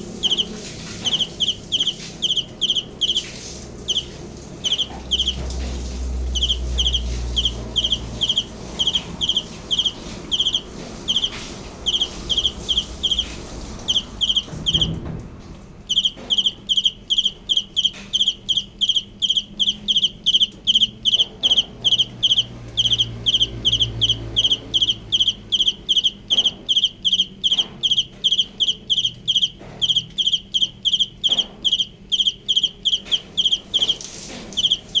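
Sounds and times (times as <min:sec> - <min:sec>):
cricket chirping: 0:00.0 - 0:15.2, 0:15.8 - 0:35.0.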